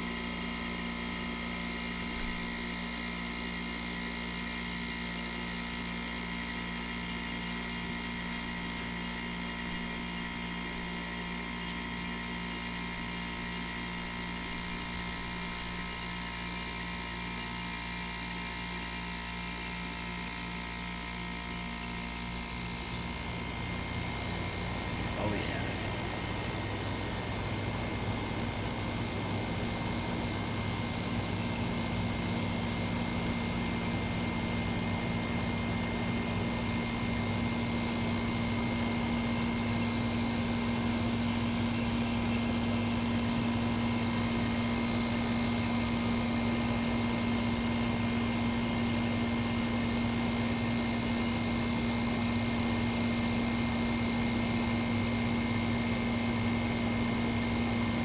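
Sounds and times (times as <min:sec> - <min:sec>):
air conditioner hum: 0:00.0 - 0:58.0.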